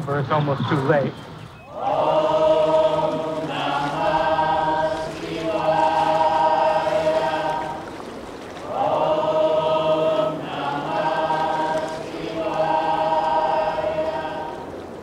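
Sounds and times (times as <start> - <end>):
choir singing held chords: 1.6 - 15.0.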